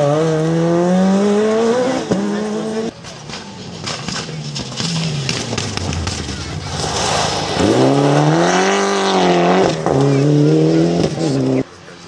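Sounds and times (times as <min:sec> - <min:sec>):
rally car engine revving: 0:00.0 - 0:11.8.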